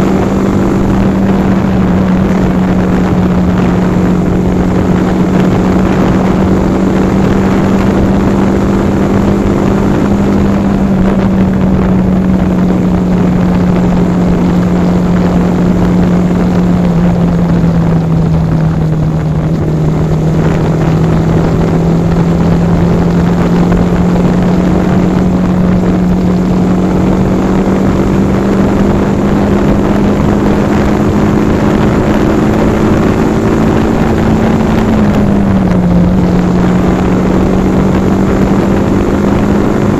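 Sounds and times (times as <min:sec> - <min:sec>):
motorcycle engine cruising: 0:00.0 - 0:39.9
steady rushing noise: 0:00.0 - 0:39.9.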